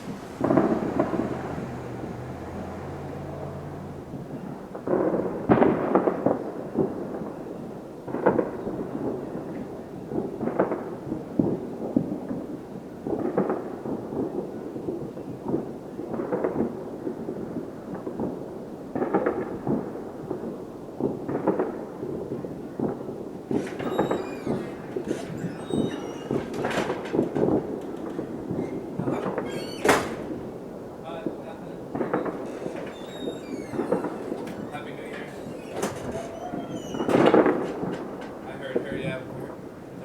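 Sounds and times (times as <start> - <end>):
distant fireworks bangs: 0.0 - 40.0.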